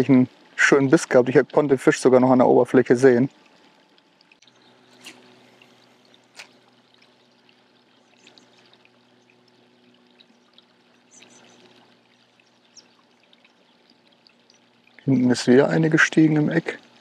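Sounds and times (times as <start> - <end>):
trickle of running water: 0.0 - 17.0
low hum: 1.5 - 17.0.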